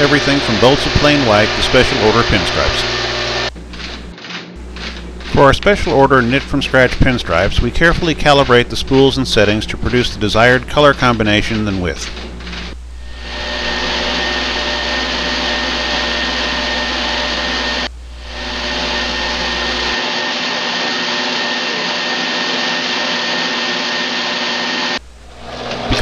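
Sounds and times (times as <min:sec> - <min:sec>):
knitting machines whirring: 0:00.0 - 0:26.0.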